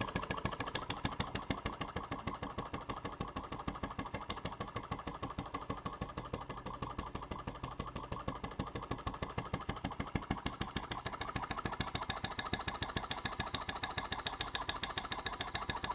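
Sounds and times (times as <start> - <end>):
model engine clacking: 0.0 - 15.9.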